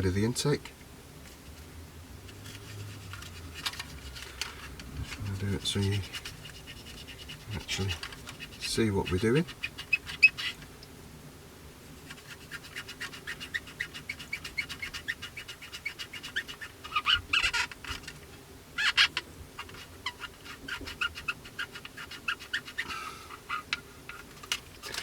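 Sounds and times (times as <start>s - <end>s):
squeaky scratching on plastic: 2.2s - 10.7s, 12.0s - 25.0s.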